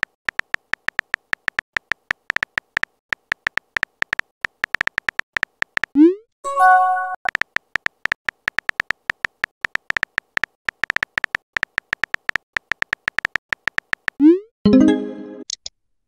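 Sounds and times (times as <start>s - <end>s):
electronic keyboard typing ticks: 0.0s - 6.1s, 7.2s - 14.4s.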